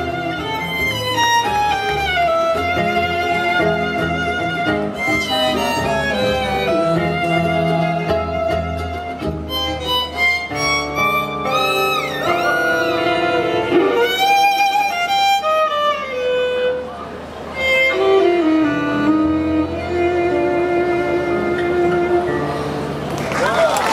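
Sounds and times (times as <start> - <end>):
violin melody with sliding notes: 0.0 - 23.0
musical accompaniment: 0.0 - 23.4.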